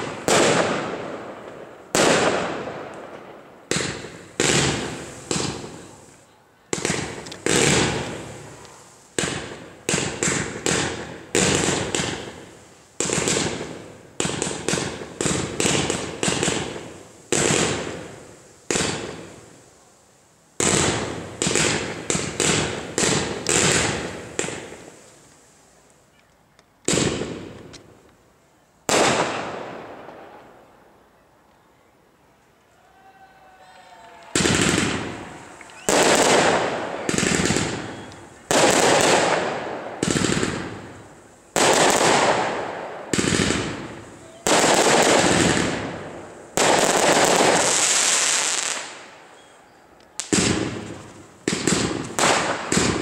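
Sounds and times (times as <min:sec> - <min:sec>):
fireworks bangs echoing: 0:00.0 - 0:19.7, 0:20.6 - 0:25.6, 0:26.9 - 0:27.8, 0:28.9 - 0:30.6, 0:34.2 - 0:49.3, 0:50.2 - 0:53.0.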